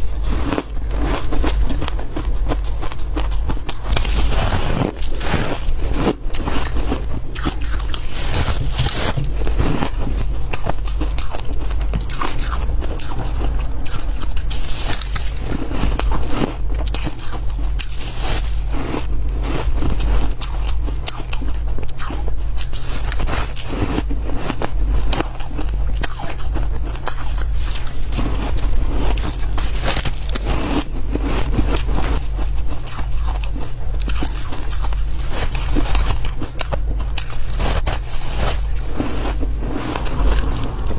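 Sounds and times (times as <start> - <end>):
ice being chewed: 0.0 - 40.9
low hum: 0.0 - 40.9.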